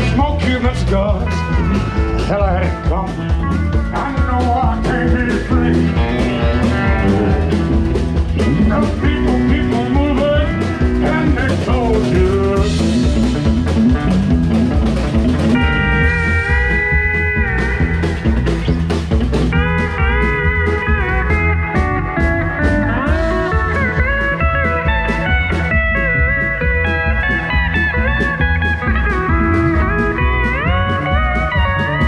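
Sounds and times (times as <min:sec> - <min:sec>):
drums: 0:00.0 - 0:32.0
electric guitar: 0:00.0 - 0:32.0
pedal steel guitar: 0:00.0 - 0:32.0.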